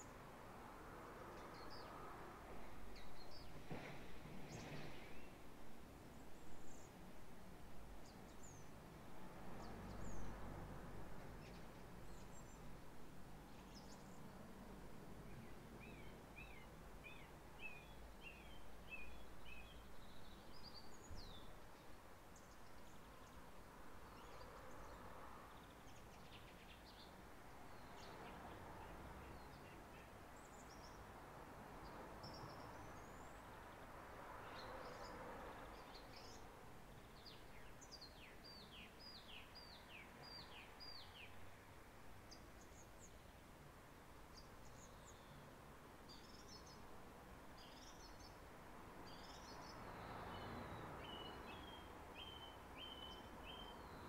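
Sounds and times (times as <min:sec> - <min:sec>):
faint birdsong: 0:00.0 - 0:10.5, 0:11.2 - 0:54.0
soft wind rush: 0:00.0 - 0:51.1.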